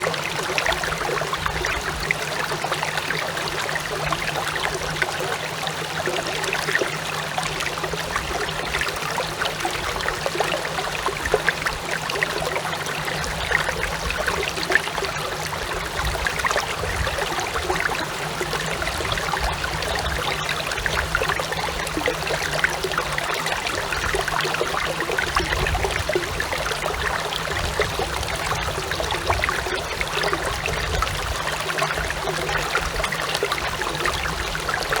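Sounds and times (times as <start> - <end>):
stream babbling: 0.0 - 35.0.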